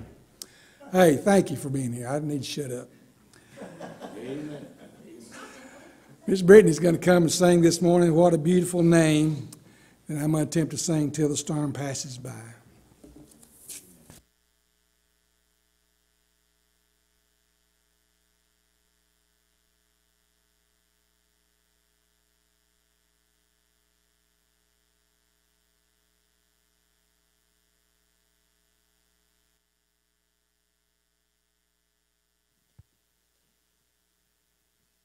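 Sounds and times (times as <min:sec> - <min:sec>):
faint electrical mains hum: 0:00.0 - 0:35.0.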